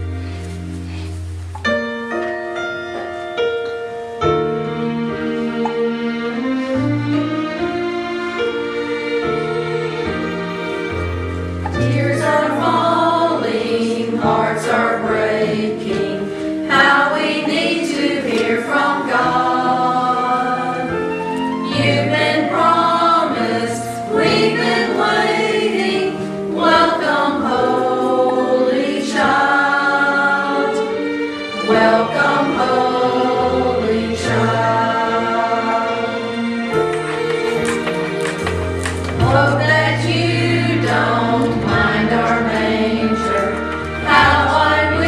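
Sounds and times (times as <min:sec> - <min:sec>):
mixed choir singing: 0:08.4 - 0:45.0.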